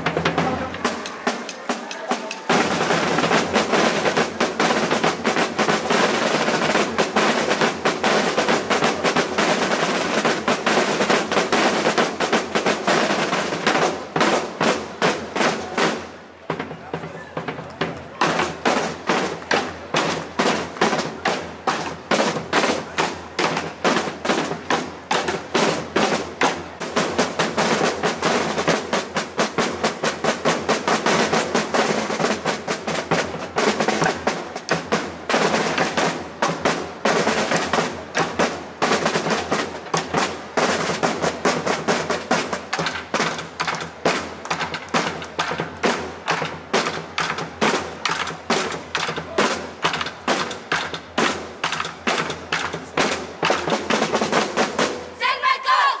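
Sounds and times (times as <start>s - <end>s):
fast snare-like drumming: 0.0s - 55.2s.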